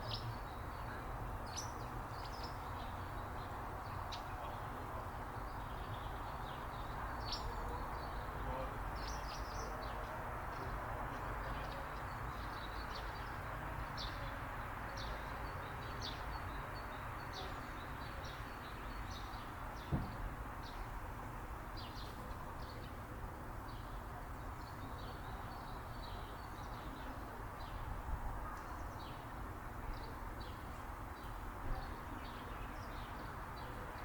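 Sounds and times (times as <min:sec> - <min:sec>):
low background noise: 0:00.0 - 0:34.0.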